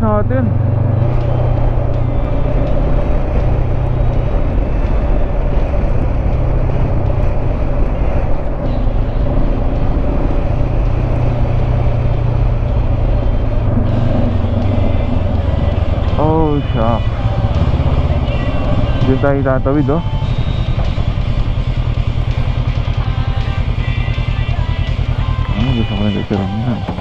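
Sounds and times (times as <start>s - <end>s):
motorcycle engine drone: 0.0s - 27.0s
wind and road noise: 0.0s - 27.0s.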